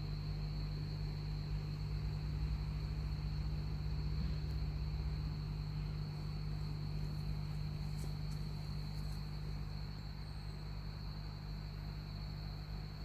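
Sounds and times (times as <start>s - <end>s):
crickets trilling: 0.0s - 13.0s
low hum: 0.0s - 13.0s.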